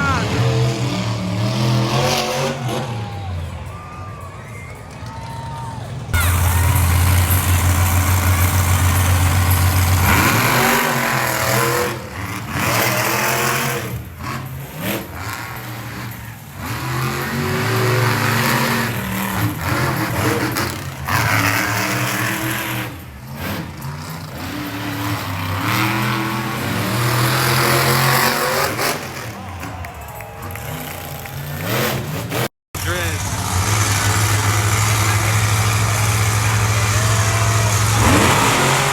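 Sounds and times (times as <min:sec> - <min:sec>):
truck engine revving: 0:00.0 - 0:03.7, 0:06.0 - 0:38.9.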